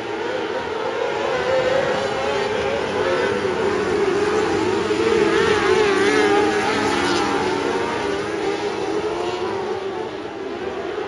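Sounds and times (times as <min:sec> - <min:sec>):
racing car engines at high revs: 0:00.0 - 0:11.0.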